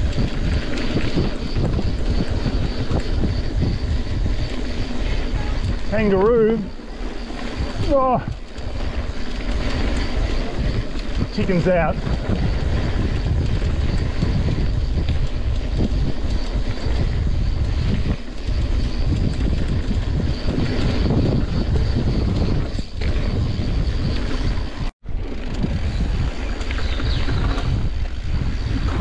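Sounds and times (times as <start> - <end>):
mountain bike rolling on dirt: 0.0 - 29.0
wind rushing over microphone: 0.0 - 29.0.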